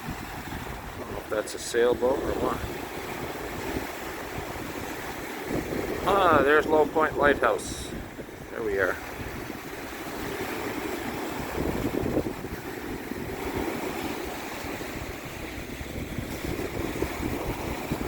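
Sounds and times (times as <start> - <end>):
waves washing on shore: 0.0 - 18.0
wind buffeting microphone: 0.0 - 18.0.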